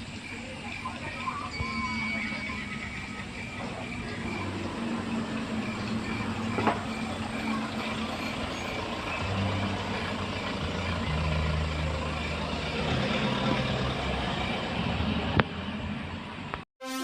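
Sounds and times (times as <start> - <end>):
vehicle engine humming: 0.0 - 16.6.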